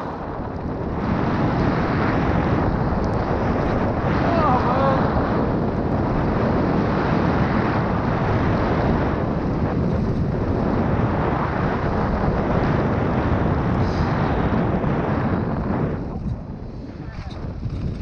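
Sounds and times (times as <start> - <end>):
wind rushing on microphone: 0.0 - 18.0.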